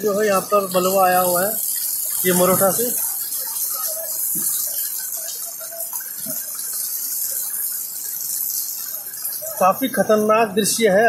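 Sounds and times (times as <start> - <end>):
heavy rain hissing: 0.0 - 11.0
running floodwater: 0.0 - 11.0.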